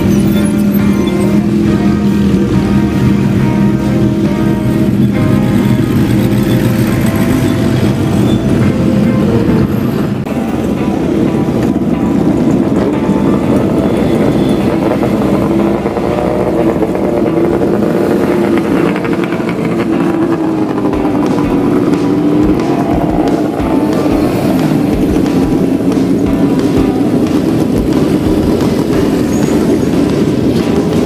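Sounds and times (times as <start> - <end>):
motorcycle engines riding past: 0.0 - 31.0.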